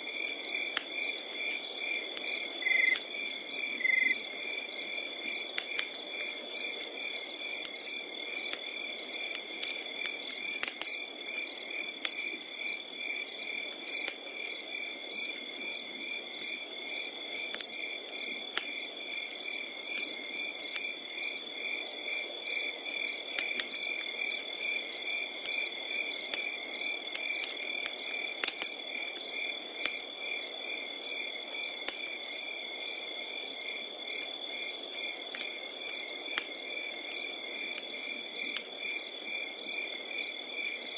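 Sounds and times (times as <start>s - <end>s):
campfire crackling: 0.0s - 40.9s
crickets chirping: 0.0s - 40.9s.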